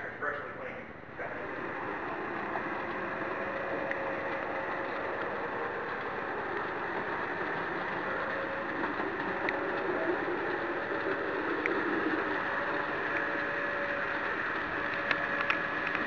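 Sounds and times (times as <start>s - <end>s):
model train motor humming: 1.1s - 16.0s
faint clicks: 1.5s - 16.0s.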